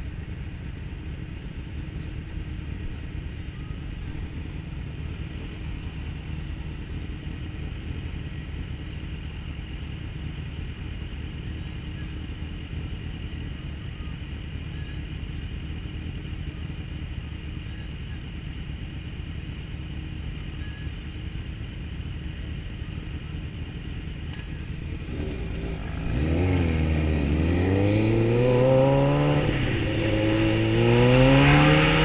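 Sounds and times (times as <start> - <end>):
motorcycle engine idling: 0.0 - 32.0
street traffic: 0.0 - 32.0.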